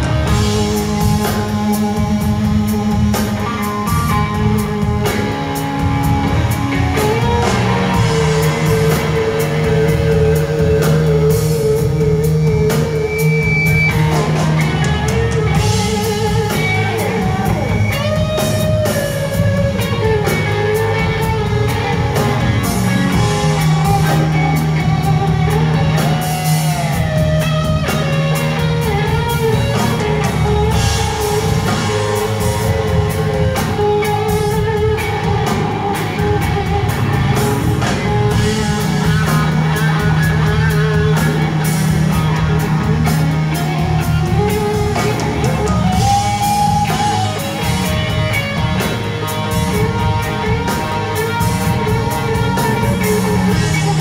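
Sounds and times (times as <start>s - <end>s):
electric guitar lines: 0.0s - 54.0s
live rock band playing: 0.0s - 54.0s.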